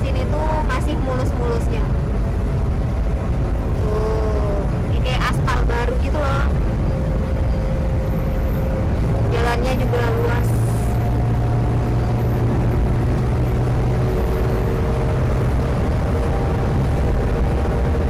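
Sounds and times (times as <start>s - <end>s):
car cabin road hum: 0.0s - 18.0s.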